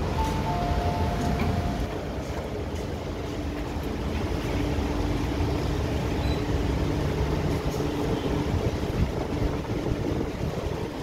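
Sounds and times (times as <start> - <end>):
metro car rumble and hum: 0.0 - 11.0.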